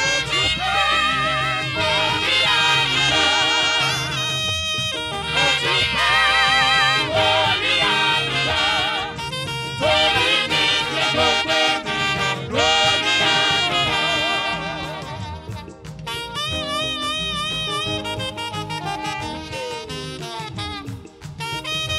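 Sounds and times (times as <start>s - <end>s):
saxophones with vibrato: 0.0s - 21.9s
swing band playing: 0.0s - 21.9s.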